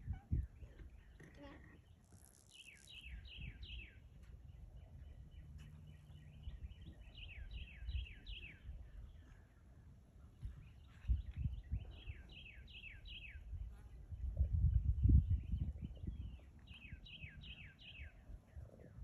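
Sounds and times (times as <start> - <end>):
small songbird chirping: 0.0 - 19.0.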